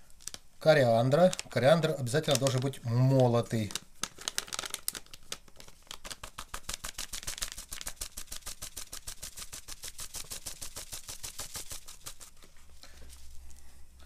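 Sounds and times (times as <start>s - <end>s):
paper sachet ticking: 0.1s - 12.5s.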